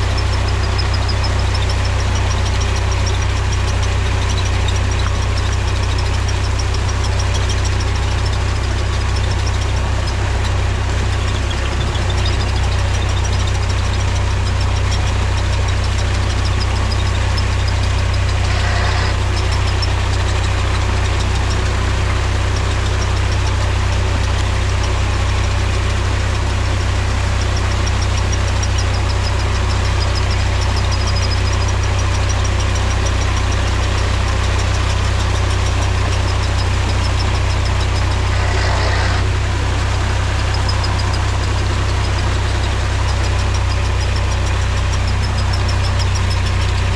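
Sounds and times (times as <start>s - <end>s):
tractor diesel engine droning: 0.0s - 46.9s.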